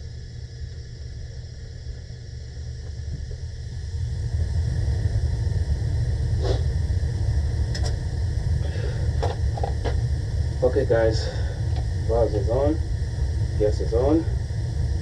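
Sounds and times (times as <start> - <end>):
heating unit rumbling: 0.0 - 15.0.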